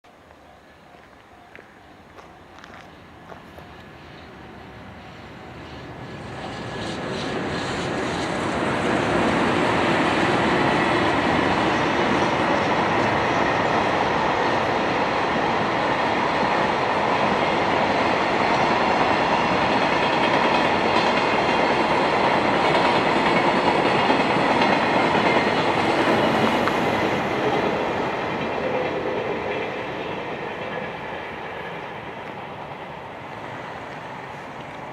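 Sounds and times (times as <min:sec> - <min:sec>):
freight train passing: 0:00.0 - 0:34.9.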